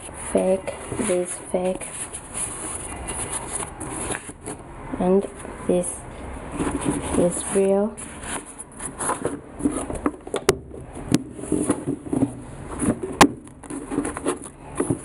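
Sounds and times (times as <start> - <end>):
sneakers rustling on cardboard boxes: 0.0 - 4.6, 6.5 - 15.0.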